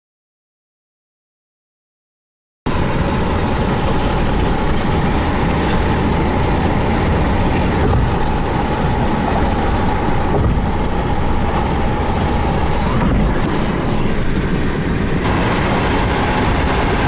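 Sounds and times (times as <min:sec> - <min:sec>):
car interior road noise: 0:02.7 - 0:17.0
constant mid-pitched tone: 0:02.7 - 0:17.0.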